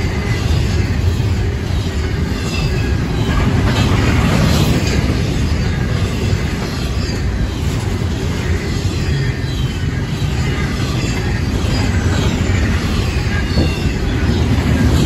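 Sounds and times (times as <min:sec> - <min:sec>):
high-pitched wheel squeals: 0:00.0 - 0:15.0
train wheels rumbling on rail: 0:00.0 - 0:15.0.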